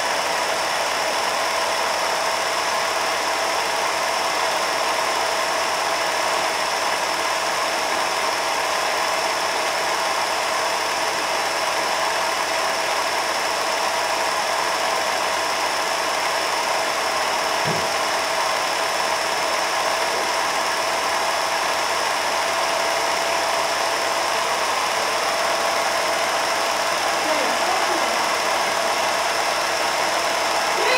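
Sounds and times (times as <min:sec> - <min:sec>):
film projector whirring: 0:00.0 - 0:30.9.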